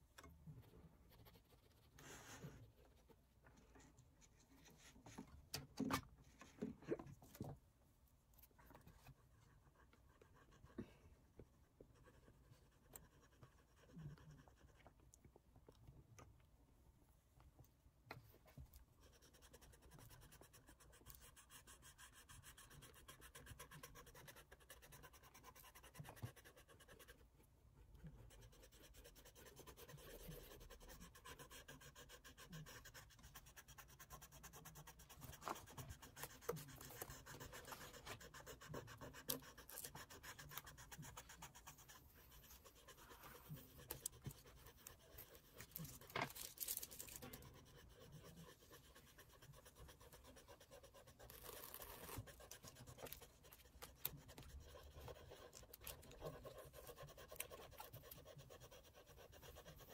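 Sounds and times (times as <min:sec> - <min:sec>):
oil pastel scratching on paper: 0:00.0 - 0:07.6, 0:08.2 - 0:15.2, 0:18.1 - 0:59.9.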